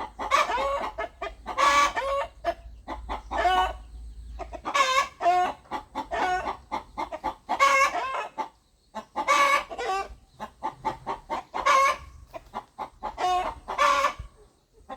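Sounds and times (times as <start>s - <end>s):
rooster clucking: 0.0s - 14.9s.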